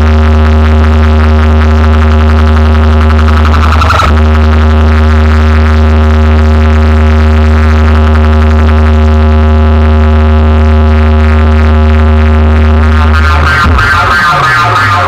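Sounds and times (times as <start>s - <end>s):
loud deep bass drone: 0.0s - 15.0s.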